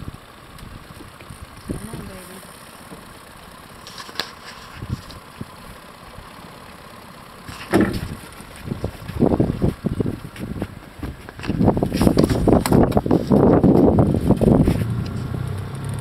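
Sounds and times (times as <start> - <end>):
boat motor idling: 0.0 - 16.0.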